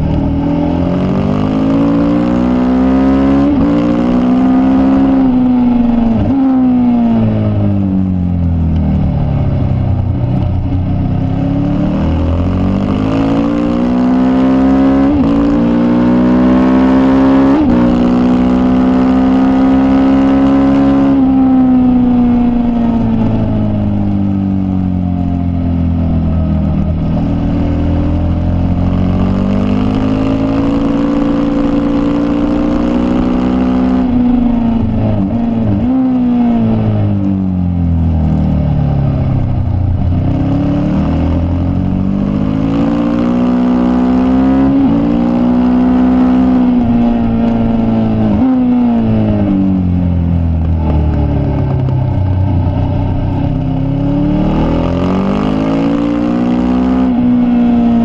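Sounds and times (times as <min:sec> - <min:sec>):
racing motorcycle engine: 0:00.0 - 0:58.0.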